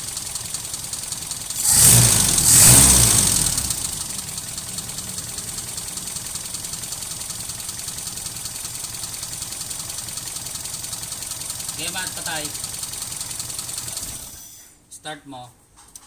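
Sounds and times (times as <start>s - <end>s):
car engine revving and idling: 0.0s - 14.4s.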